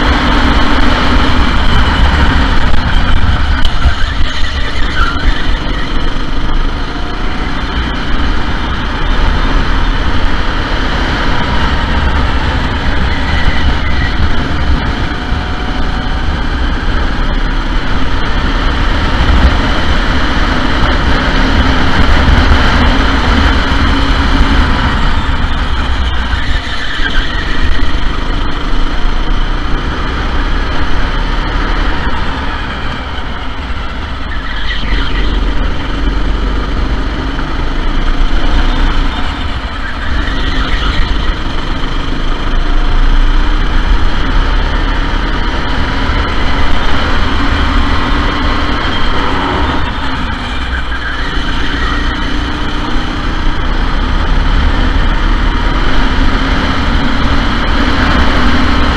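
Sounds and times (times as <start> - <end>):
go-kart engines droning: 0.0 - 58.9.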